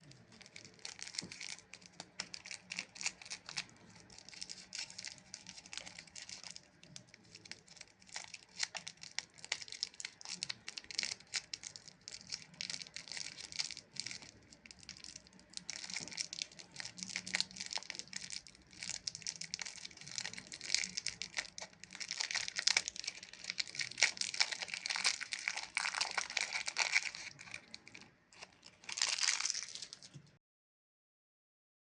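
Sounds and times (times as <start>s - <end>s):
plastic wrappers crinkling: 0.0s - 30.3s.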